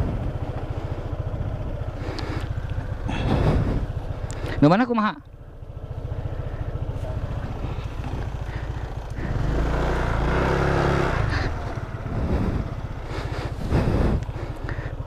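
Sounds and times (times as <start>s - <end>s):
scooter engine revving: 0.0s - 4.8s, 5.4s - 15.0s.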